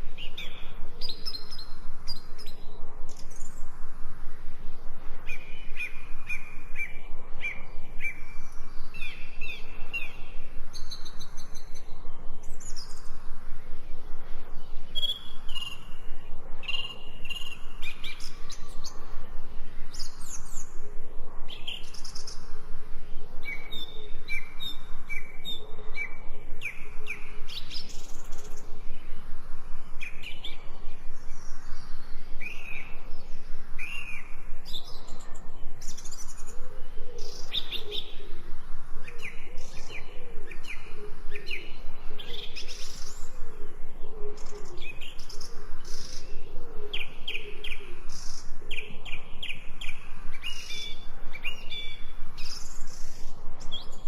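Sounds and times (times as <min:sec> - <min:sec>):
songbirds chirping and singing: 0:00.0 - 0:03.9, 0:04.5 - 0:54.0.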